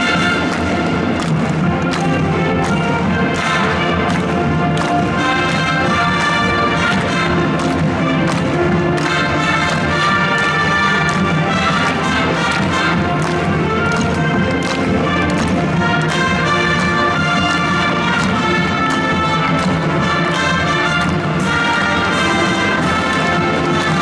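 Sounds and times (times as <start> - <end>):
drum and percussion strikes: 0.0 - 24.0
wind band playing melody: 0.0 - 24.0.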